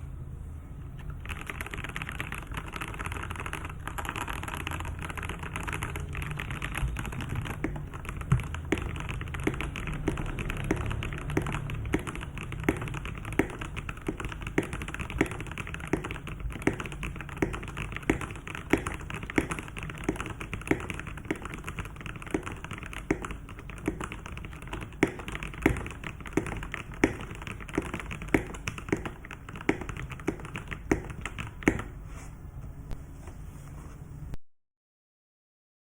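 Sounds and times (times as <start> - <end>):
mechanical keyboard typing: 1.0 - 32.0.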